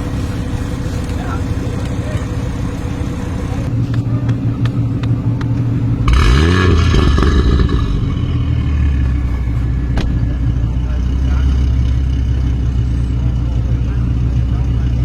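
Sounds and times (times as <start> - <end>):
car engine idling and revving: 0.0 - 15.0
exhaust crack: 0.0 - 15.0.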